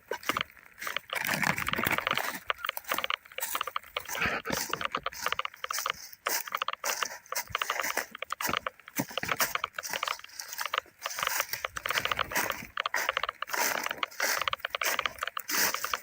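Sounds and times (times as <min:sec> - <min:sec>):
footsteps crunching through dry leaves: 0:00.0 - 0:16.0.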